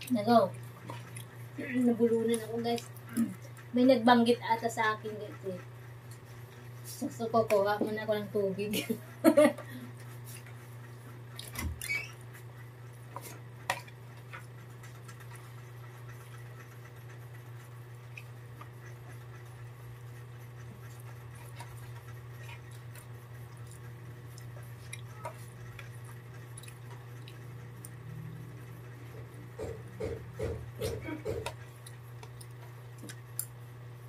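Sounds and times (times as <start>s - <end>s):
faint eating sounds: 0.0s - 33.8s
steady low hum: 0.0s - 34.0s.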